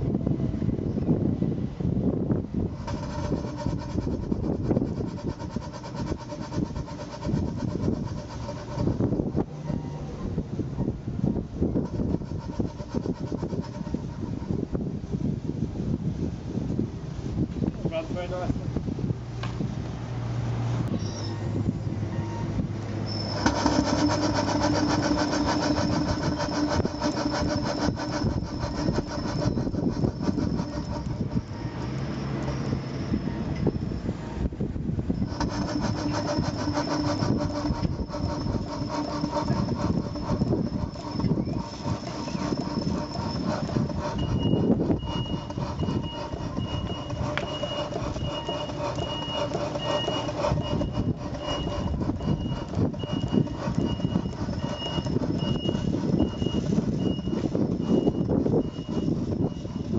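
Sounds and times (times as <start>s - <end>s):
model steam engine exhaust beating: 0.0s - 18.1s, 20.8s - 59.9s.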